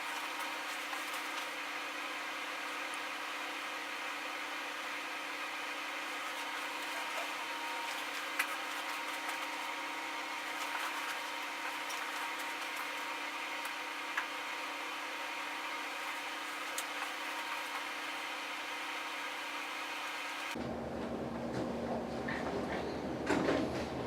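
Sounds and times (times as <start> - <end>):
indoor background hum: 0.0 - 24.0.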